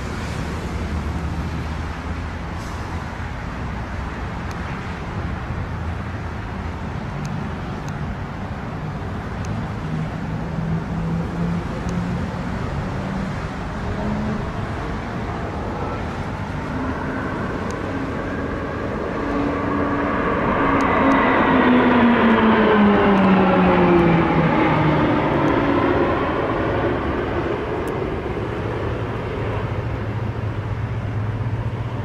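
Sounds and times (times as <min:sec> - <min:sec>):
aircraft droning rumble: 0:00.0 - 0:32.0.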